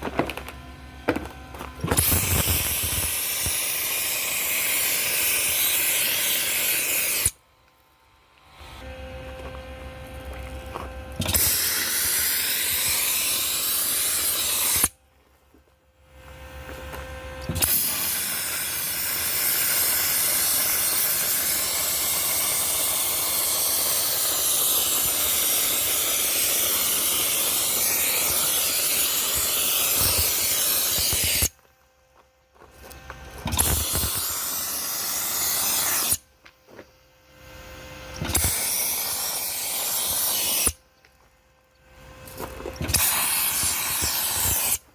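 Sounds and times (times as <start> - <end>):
dry ice blaster hissing: 1.1 - 7.4, 8.6 - 15.0, 16.2 - 31.6, 32.9 - 36.3, 37.3 - 40.9, 42.0 - 44.9.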